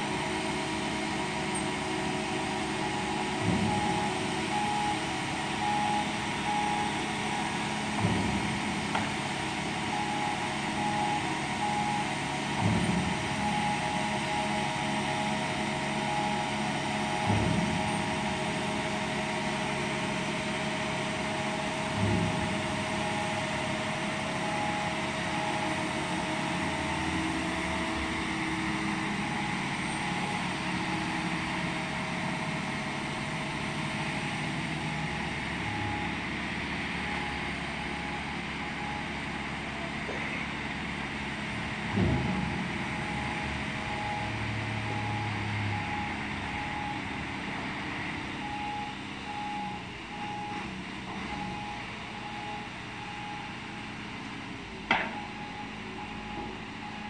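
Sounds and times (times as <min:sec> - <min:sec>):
crane diesel engine running: 0:00.0 - 0:57.0
alarm beeping: 0:01.5 - 0:40.5, 0:42.0 - 0:54.0, 0:55.0 - 0:57.0.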